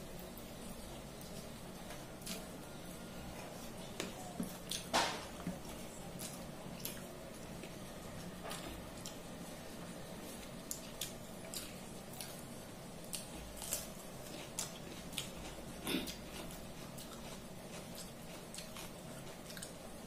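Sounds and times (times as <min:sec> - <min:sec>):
faint steady hum: 0:00.0 - 0:20.0
chewing: 0:00.3 - 0:09.3, 0:10.2 - 0:20.0.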